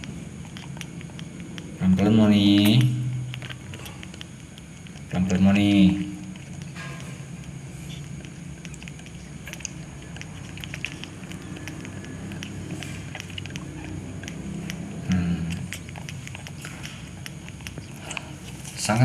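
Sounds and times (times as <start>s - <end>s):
monkey sucking milk bottle: 0.0s - 19.0s
steady low hum: 0.0s - 19.0s.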